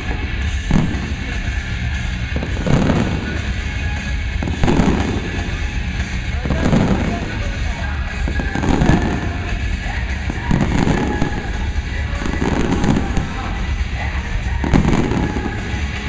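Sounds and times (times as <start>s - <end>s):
fireworks booming and crackling: 0.0s - 16.0s
music: 0.0s - 16.0s.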